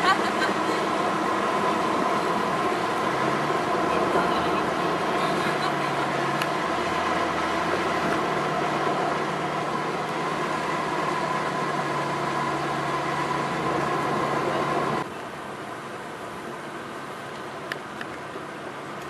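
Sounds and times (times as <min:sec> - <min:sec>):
vehicle engine running: 0:00.0 - 0:17.7
road noise: 0:00.0 - 0:19.0.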